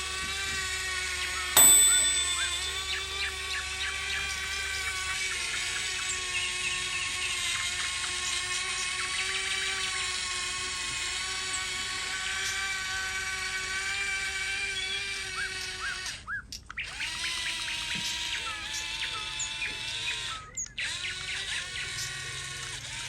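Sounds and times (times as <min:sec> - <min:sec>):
toy motor whining: 0:00.0 - 0:23.0.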